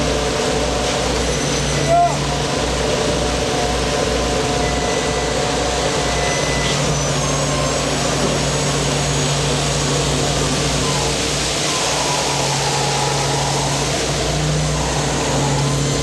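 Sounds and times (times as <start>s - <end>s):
diesel engines and hydraulic gear: 0.0s - 16.0s.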